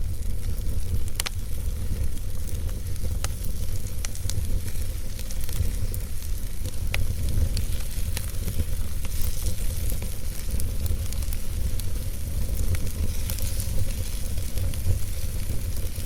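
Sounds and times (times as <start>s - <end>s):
low rumble of flame: 0.0s - 16.0s
sharp pops and snaps of fire: 0.0s - 16.0s
wood fire crackling: 0.0s - 16.0s.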